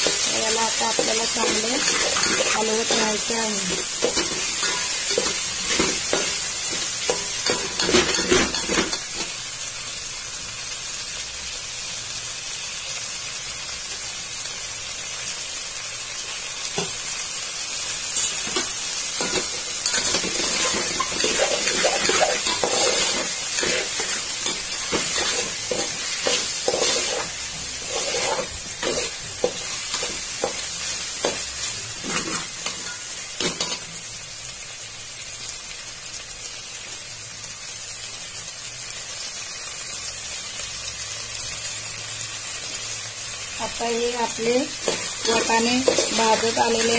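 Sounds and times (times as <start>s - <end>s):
peas sizzling in hot oil: 0.0s - 46.9s.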